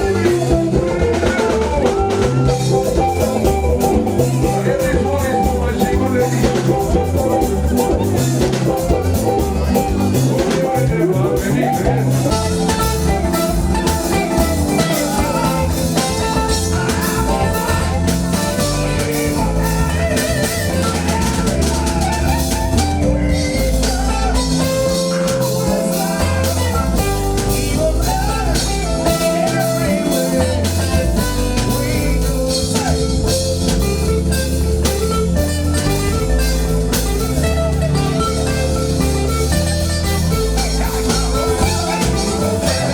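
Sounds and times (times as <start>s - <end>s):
person singing: 0.0s - 34.0s, 37.8s - 42.9s
band music with guitar and drums: 0.0s - 42.9s.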